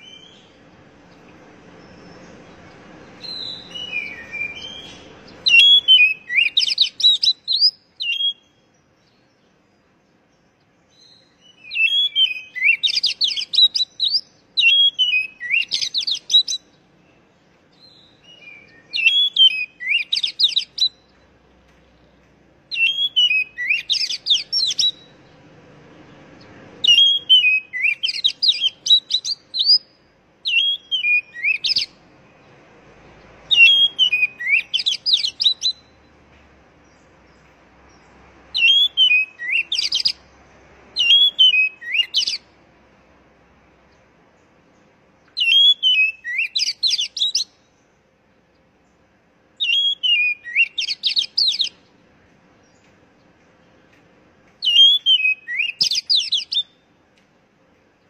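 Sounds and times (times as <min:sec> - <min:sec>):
bird singing whistled notes: 0:00.0 - 0:21.2, 0:22.1 - 0:25.4, 0:26.4 - 0:32.6, 0:33.4 - 0:36.2, 0:36.8 - 0:42.5, 0:44.7 - 0:48.0, 0:49.6 - 0:51.9, 0:54.6 - 0:57.0.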